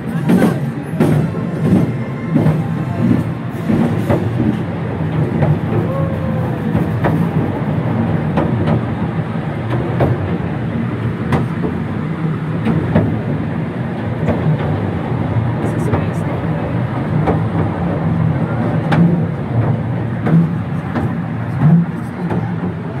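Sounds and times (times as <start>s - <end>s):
wheels clicking over rail joints: 0.0s - 23.0s
wheels rumbling on rail: 0.0s - 23.0s.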